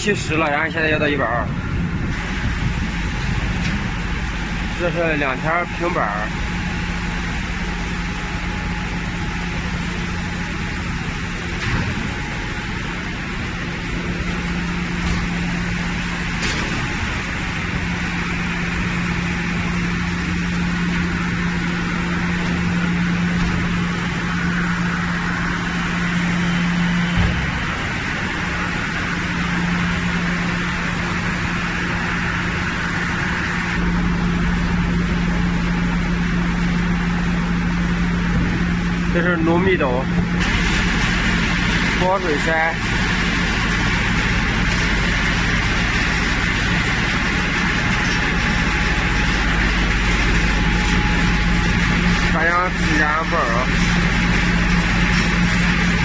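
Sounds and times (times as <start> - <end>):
heavy machinery running: 0.0 - 56.0
low hum: 0.0 - 56.0.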